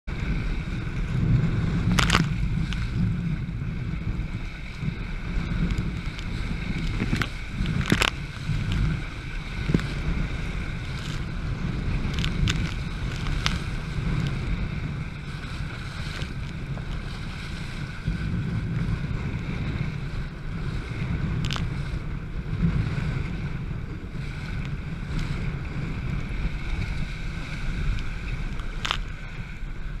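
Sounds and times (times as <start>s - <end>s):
hull slapping waves: 0.0s - 30.0s
water rushing along hull: 0.0s - 30.0s
wind buffeting microphone: 0.0s - 30.0s.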